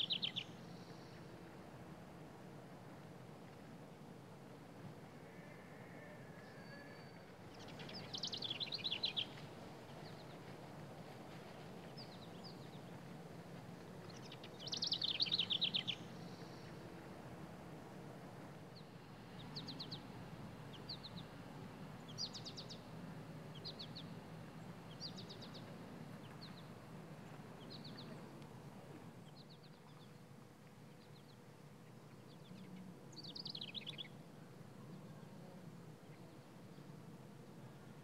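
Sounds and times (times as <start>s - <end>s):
faint outdoor background hum: 0.0s - 38.0s
songbirds chirping: 0.0s - 38.0s.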